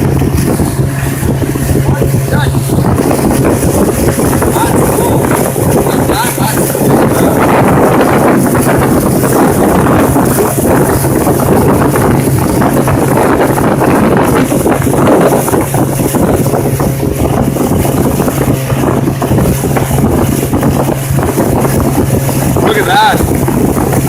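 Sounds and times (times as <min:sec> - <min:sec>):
motorboat engine humming: 0:00.0 - 0:24.0
wind on microphone: 0:00.0 - 0:24.0.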